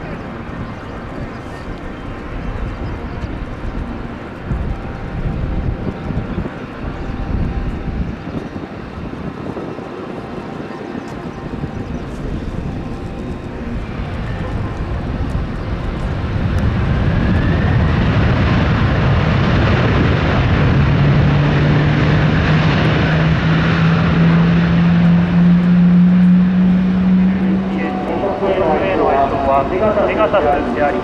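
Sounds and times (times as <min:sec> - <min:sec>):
jet airliner engines running: 0:00.0 - 0:31.0
low hum: 0:00.0 - 0:31.0.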